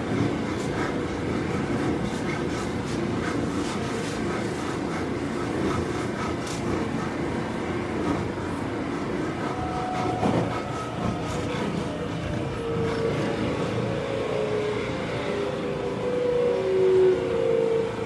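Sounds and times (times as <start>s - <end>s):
train wheel and track noise: 0.0s - 18.0s.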